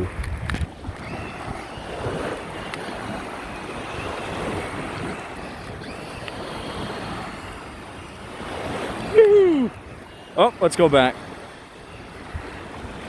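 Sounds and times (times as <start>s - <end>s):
faint electric motor whine: 0.0s - 13.0s.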